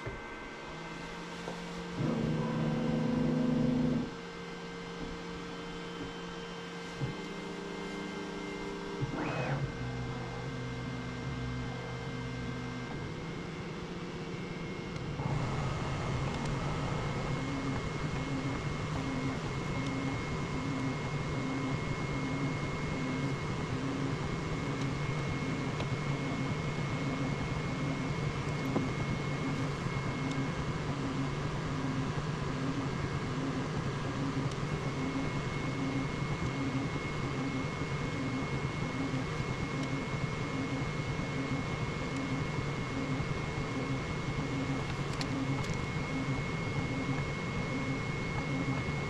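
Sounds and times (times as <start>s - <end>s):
fans whirring with high whine: 0.0s - 49.0s
pulsing motor hum: 0.0s - 49.0s.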